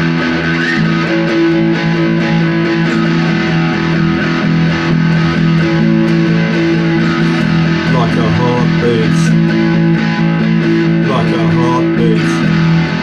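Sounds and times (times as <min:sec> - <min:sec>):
distorted electric guitar chords: 0:00.0 - 0:13.0.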